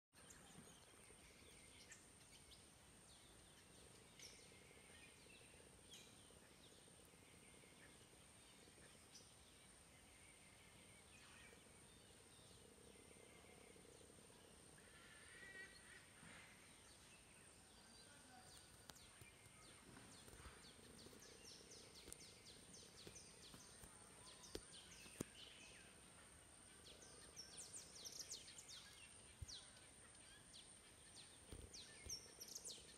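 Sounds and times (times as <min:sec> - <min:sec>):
distant birds chirping: 0:00.4 - 0:32.9.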